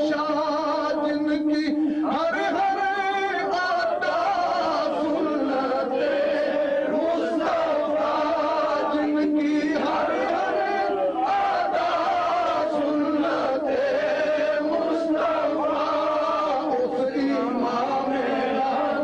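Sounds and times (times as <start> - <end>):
men chanting together: 2.0 - 19.0.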